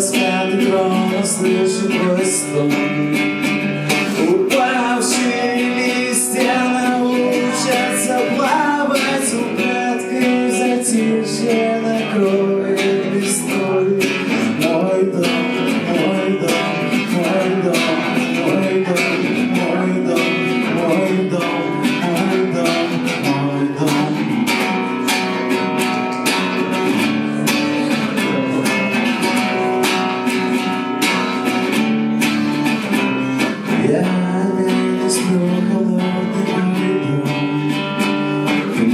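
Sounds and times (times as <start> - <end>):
guitar strumming: 0.0 - 38.9.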